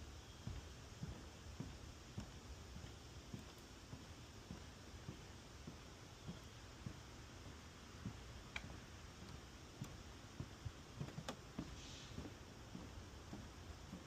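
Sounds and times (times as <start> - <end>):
footsteps on wooden boardwalk: 0.0 - 14.0.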